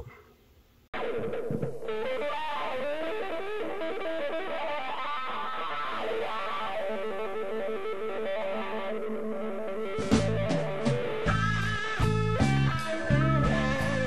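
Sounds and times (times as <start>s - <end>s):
plucked guitar instrumental: 1.0s - 14.0s.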